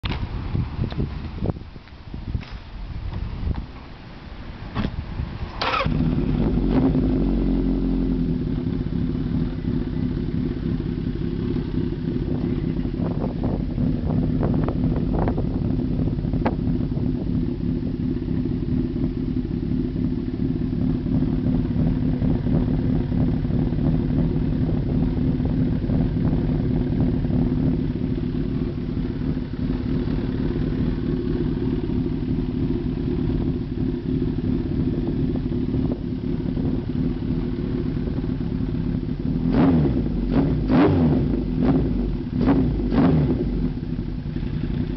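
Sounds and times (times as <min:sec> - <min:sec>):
motorcycle engine idling: 0:05.0 - 0:44.9.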